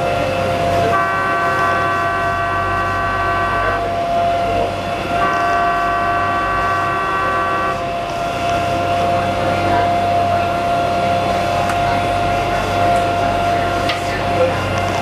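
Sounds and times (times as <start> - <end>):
boat engine hum: 0.0 - 15.0
boat horn blasts: 0.0 - 15.0.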